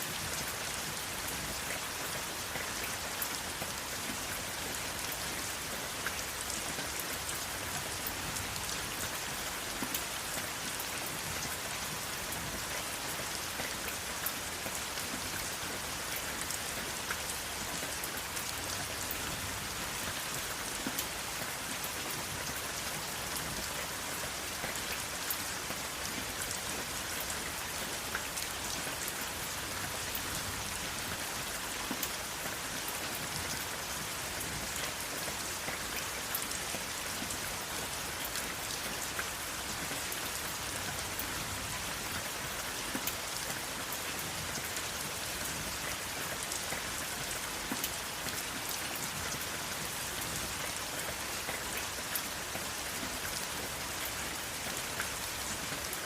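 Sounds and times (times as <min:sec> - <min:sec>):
rain drops ticking on a surface: 0:00.0 - 0:56.0.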